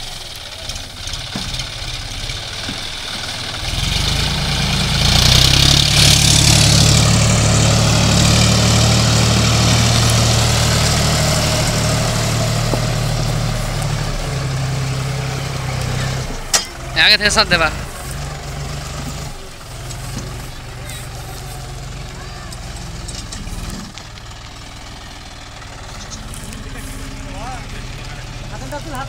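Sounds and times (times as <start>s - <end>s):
grass brushing past: 0.0s - 29.0s
tractor diesel engine under load: 0.0s - 29.0s.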